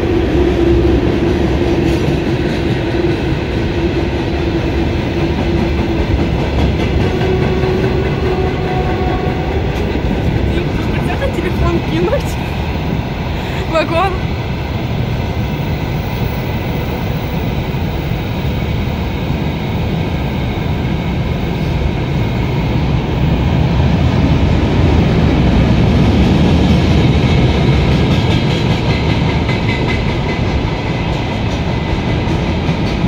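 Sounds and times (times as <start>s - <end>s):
freight train wheels rumbling on rails: 0.0s - 33.0s.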